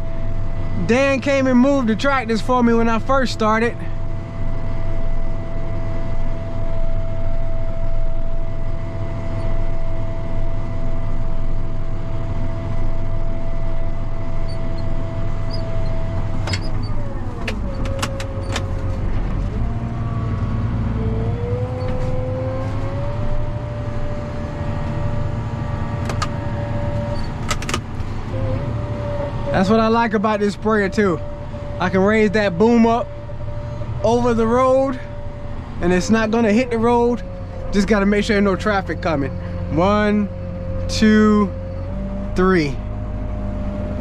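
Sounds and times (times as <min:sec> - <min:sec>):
engine running from inside cab: 0:00.0 - 0:44.0.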